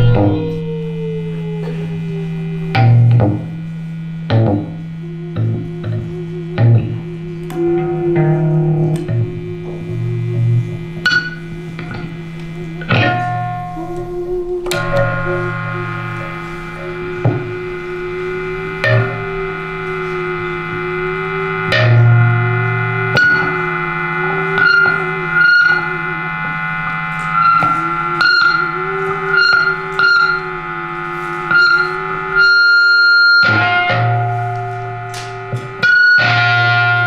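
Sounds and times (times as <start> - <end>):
layered sustained drones: 0.0 - 37.0
plucked electric guitar notes: 0.0 - 37.0
wavering tone: 0.0 - 37.0.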